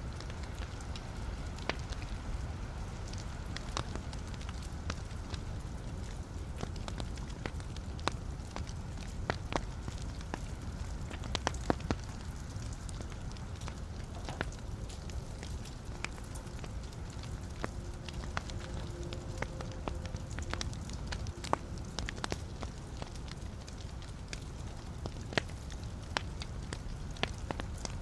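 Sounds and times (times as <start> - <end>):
fire flame rumble: 0.0 - 28.0
logs crackling and popping: 0.0 - 28.0.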